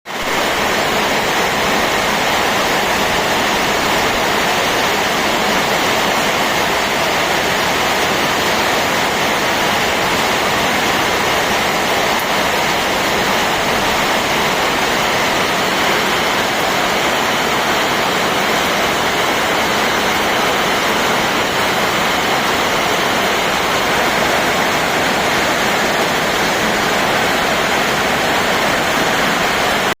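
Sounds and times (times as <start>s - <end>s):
rain falling steadily: 0.1s - 30.0s.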